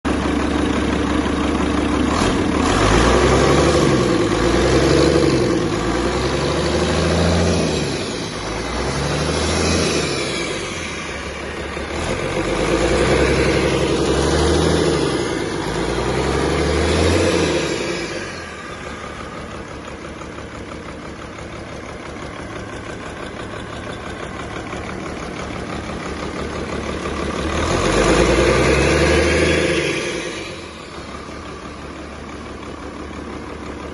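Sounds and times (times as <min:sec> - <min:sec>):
diesel engine revving and idling: 0:00.0 - 0:33.9.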